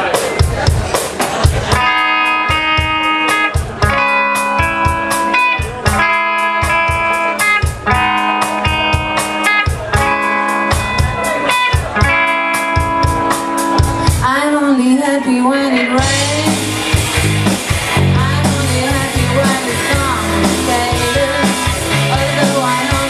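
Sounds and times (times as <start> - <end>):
quick drum beat: 0.0 - 14.3, 16.0 - 23.0
electric guitar chords: 0.0 - 23.0.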